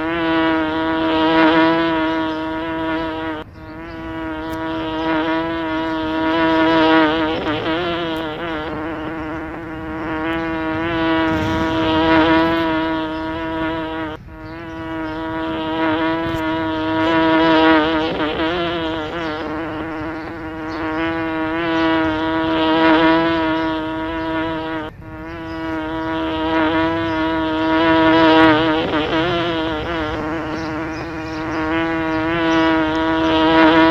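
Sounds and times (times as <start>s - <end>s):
bee buzzing: 0.0s - 33.9s.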